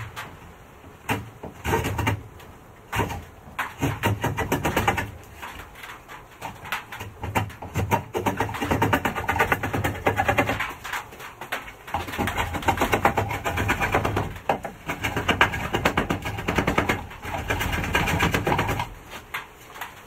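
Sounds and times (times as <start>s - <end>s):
draw knife shaving wood: 1.0s - 20.0s.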